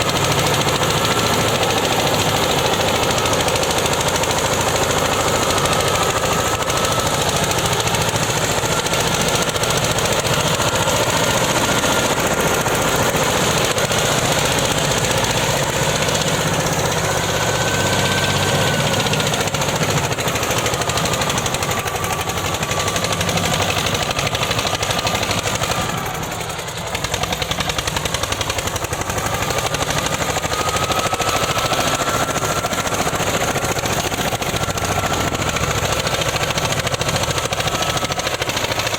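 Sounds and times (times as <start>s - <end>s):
tractor diesel engine chugging: 0.0s - 38.9s.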